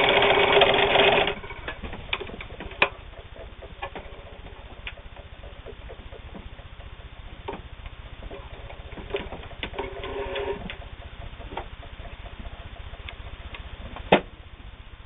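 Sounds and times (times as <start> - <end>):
sewing machine stitching: 0.0 - 7.0, 8.2 - 13.4.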